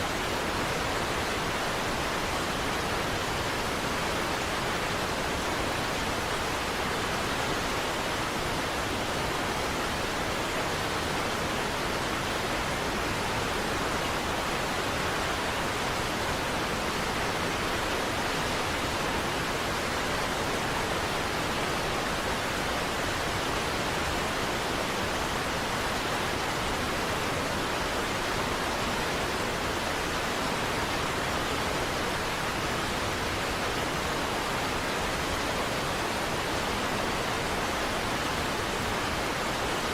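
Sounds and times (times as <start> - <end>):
large waterfall rushing: 0.0 - 39.9.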